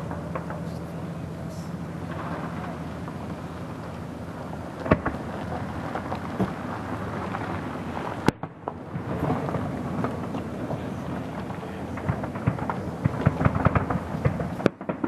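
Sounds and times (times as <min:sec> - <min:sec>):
fireworks bangs: 0:00.0 - 0:15.0
steady rumbling background: 0:00.0 - 0:15.0.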